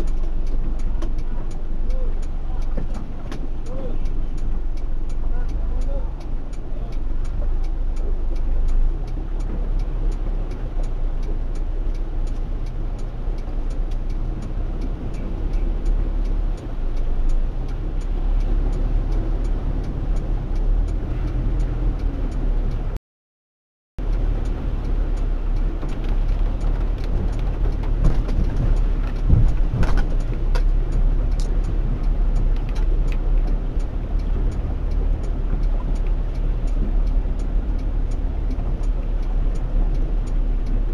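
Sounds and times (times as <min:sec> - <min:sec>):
car interior rumble: 0:00.0 - 0:23.0, 0:24.0 - 0:40.9
faint regular ticking: 0:00.0 - 0:23.0, 0:24.0 - 0:40.9.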